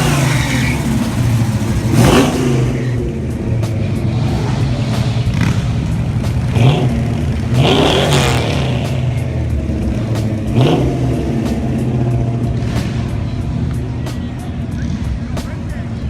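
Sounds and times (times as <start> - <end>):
vehicle engines revving: 0.0 - 16.0.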